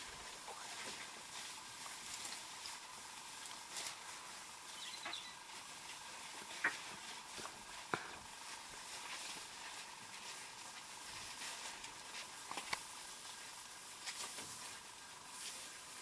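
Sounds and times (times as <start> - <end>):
faint steady hiss: 0.0 - 16.0
light crackles: 0.0 - 16.0.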